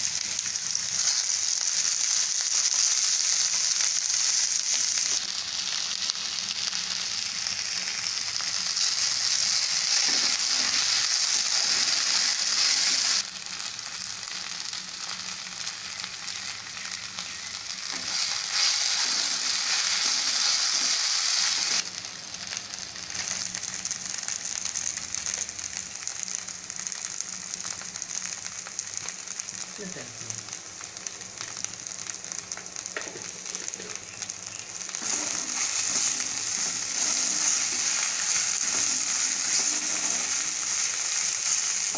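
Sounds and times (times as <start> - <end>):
vegetables sizzling in hot oil: 0.0 - 41.9.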